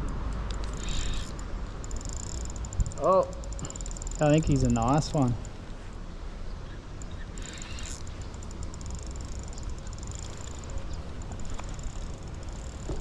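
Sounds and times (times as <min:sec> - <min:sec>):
fishing reel ticking: 0:00.0 - 0:05.6, 0:07.0 - 0:13.0.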